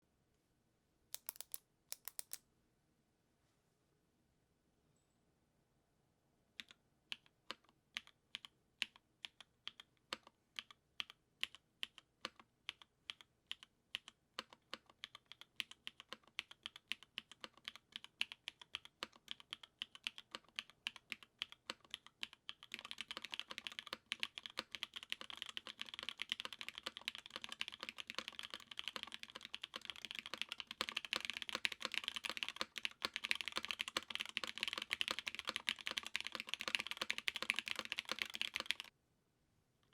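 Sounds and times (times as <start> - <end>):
mechanical keyboard typing: 1.2 - 2.4, 6.6 - 38.9.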